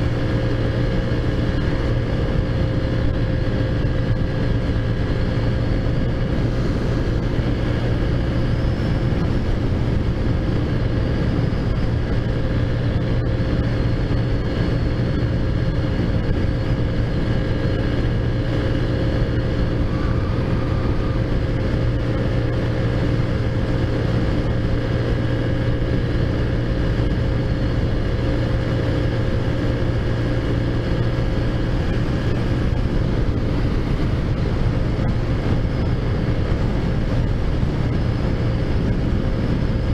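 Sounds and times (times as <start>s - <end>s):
scooter engine running steadily: 0.0s - 39.9s.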